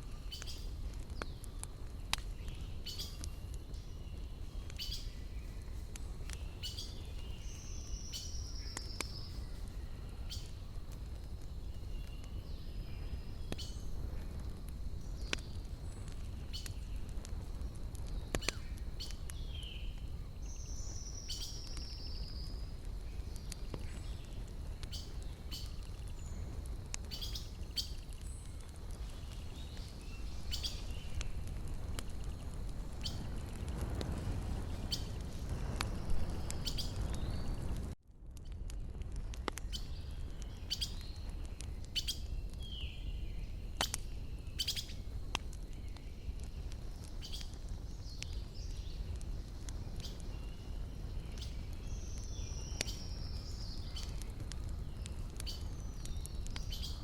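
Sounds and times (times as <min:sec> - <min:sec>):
small birds chirping: 0:00.0 - 0:33.7, 0:34.5 - 0:38.0, 0:38.7 - 0:57.0
wood fire crackling and popping: 0:00.0 - 0:57.0.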